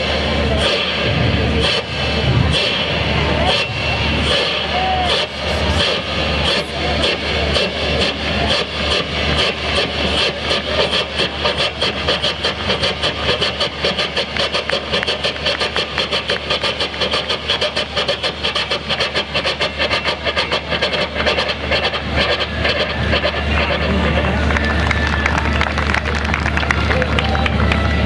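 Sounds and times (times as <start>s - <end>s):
man imitating steam locomotive chuffing: 0.0s - 28.0s.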